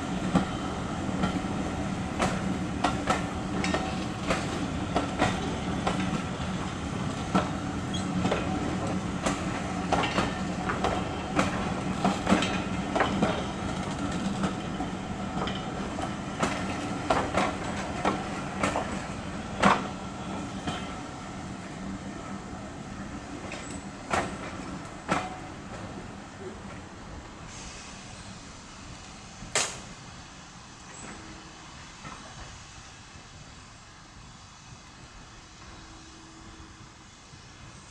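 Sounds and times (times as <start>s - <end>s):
train wheels clunking over rail joints: 0.0s - 28.3s, 29.0s - 30.0s, 30.8s - 32.5s.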